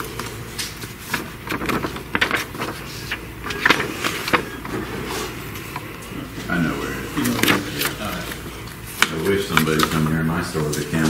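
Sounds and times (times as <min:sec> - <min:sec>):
paper rustling and crackling: 0:00.0 - 0:11.0.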